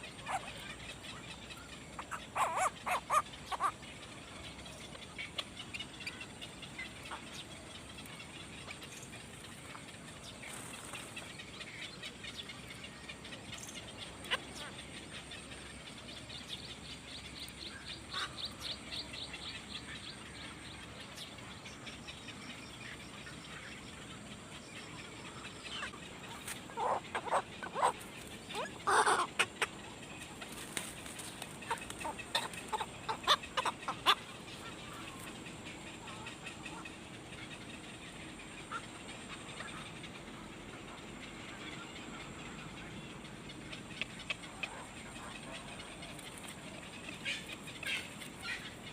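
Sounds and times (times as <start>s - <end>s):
birds chirping: 0.0s - 48.9s
steady background hiss: 0.0s - 48.9s.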